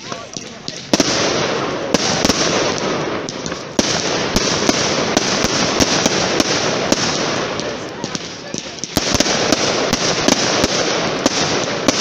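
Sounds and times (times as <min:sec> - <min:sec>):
fireworks crackling: 0:00.0 - 0:12.0
fireworks cracks: 0:00.0 - 0:12.0.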